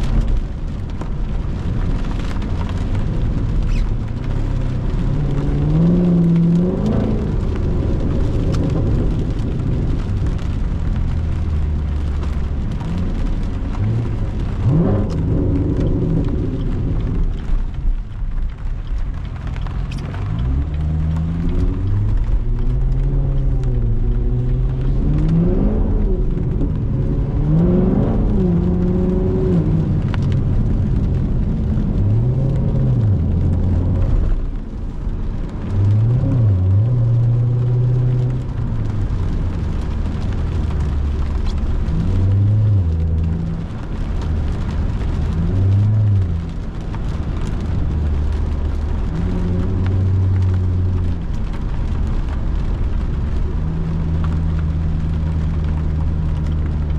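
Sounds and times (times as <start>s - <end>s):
car engine revving and shifting: 0.0s - 17.7s, 18.4s - 56.9s
tyre noise on wet road: 0.0s - 56.9s.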